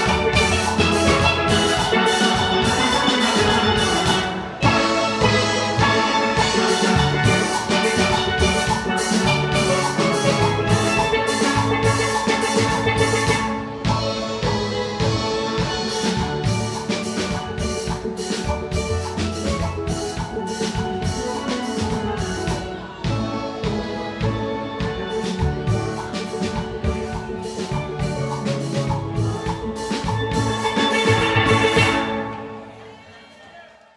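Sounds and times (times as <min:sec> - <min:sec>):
steady drum beat: 0:00.0 - 0:32.2
steelpan band playing: 0:00.0 - 0:32.9.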